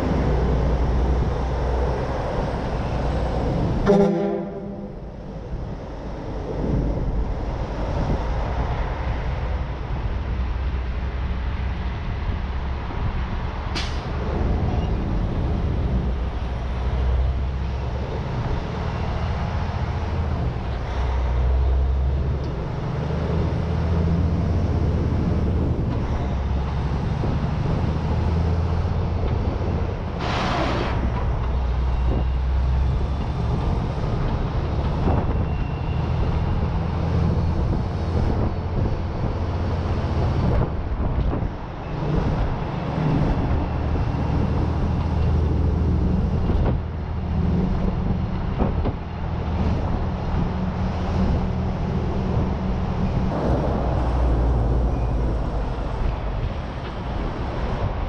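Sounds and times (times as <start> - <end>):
road and wind noise: 0.0 - 58.0
truck diesel engine drone: 0.0 - 58.0.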